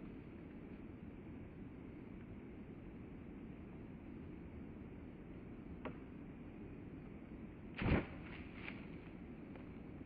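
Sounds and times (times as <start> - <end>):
low outdoor background noise: 0.0 - 10.0.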